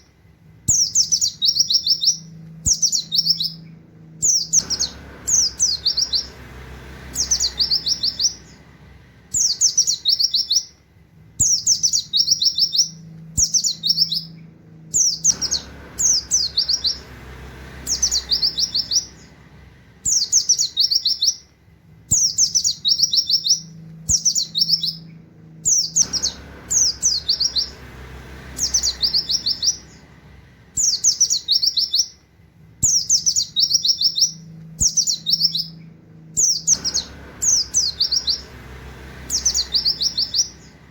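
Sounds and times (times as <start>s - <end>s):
bird singing high falling notes: 0.7s - 10.8s, 11.4s - 21.5s, 22.1s - 32.2s, 32.8s - 40.9s.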